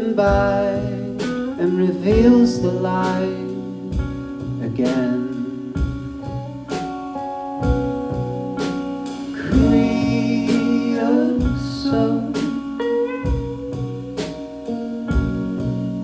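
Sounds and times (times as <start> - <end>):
live rock band playing: 0.0 - 16.0
drum hits: 0.3 - 3.2, 3.9 - 16.0.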